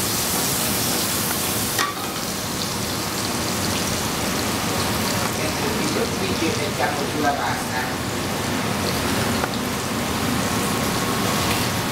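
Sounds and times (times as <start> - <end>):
meat sizzling in pan: 0.0 - 11.9.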